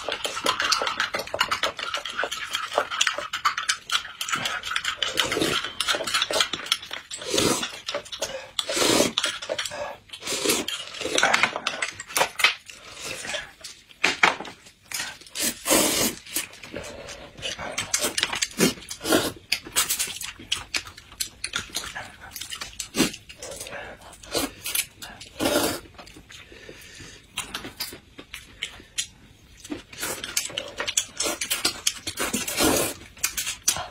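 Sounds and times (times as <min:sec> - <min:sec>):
slurping and chewing: 0:00.0 - 0:14.0, 0:14.6 - 0:33.9.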